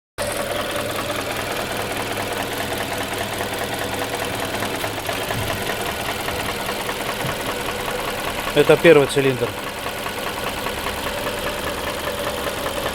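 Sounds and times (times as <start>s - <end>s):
car engine running: 0.2s - 12.9s
rapid engine knocking: 0.2s - 12.9s.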